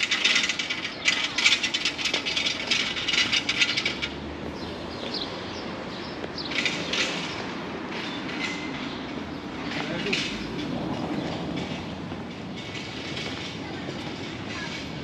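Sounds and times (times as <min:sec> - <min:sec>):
wheel clatter: 0:00.0 - 0:04.8, 0:06.4 - 0:15.0
train rumbling on tracks: 0:00.0 - 0:15.0.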